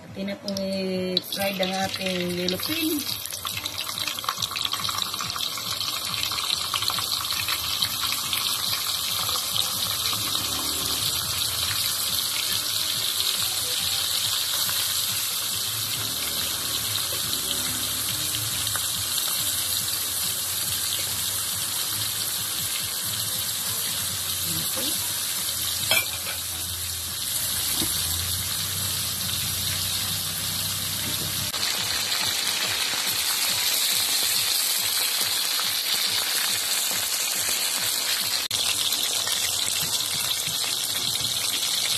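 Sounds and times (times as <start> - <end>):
oil sizzling in a wok: 0.5 - 41.9.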